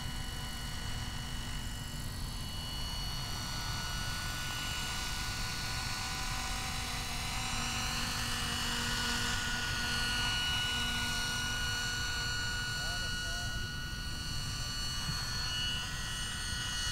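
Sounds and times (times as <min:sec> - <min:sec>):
model helicopter motor whine: 0:00.0 - 0:16.9.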